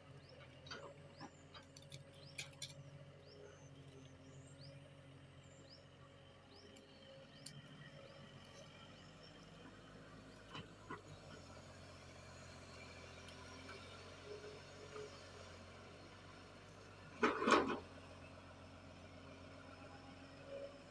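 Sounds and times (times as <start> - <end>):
excavator diesel engine hum: 0.0 - 20.9.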